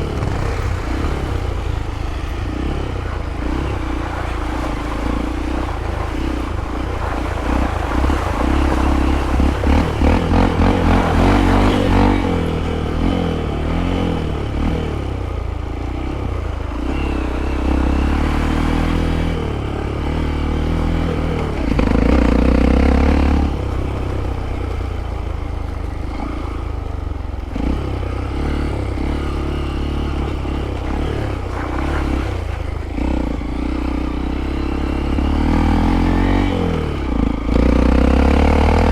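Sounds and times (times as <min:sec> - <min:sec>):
bike clatter and scraping: 0:00.0 - 0:17.7, 0:19.5 - 0:35.2
motorcycle engine revving: 0:00.0 - 0:38.9.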